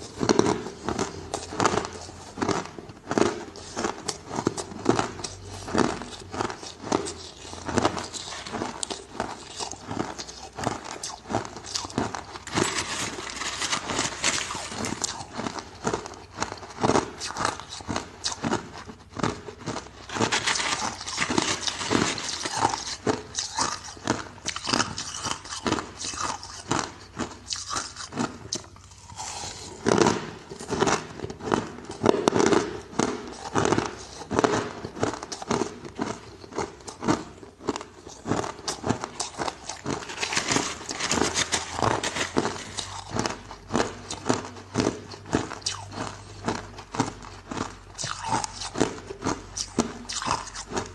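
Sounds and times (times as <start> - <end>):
ice crunching in mouth: 0.0 - 50.9.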